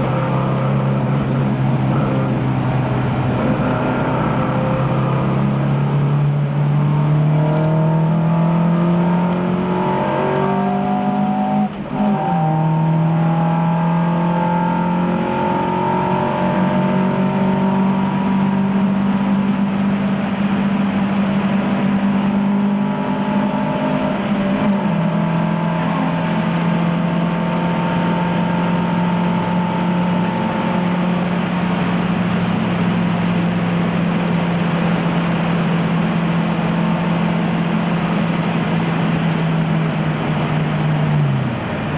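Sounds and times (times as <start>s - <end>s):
race car engine revving high: 0.0s - 41.9s.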